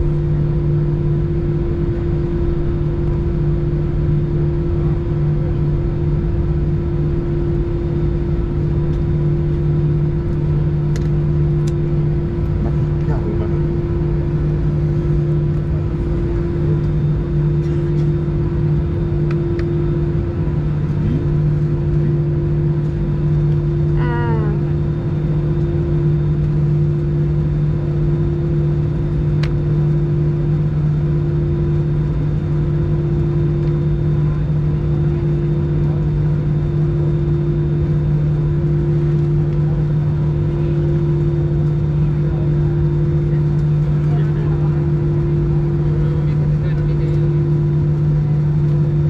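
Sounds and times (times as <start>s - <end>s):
airplane cabin engine hum: 0.0s - 49.0s.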